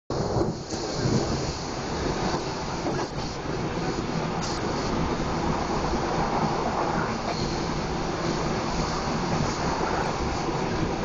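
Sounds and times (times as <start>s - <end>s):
train rumble and hiss: 0.1s - 11.0s.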